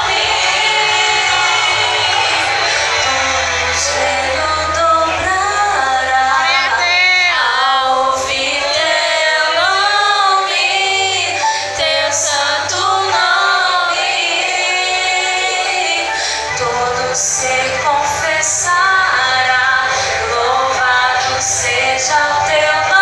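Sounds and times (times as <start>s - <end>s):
girls singing gospel song: 0.0s - 23.0s
low bass accompaniment: 0.0s - 23.0s.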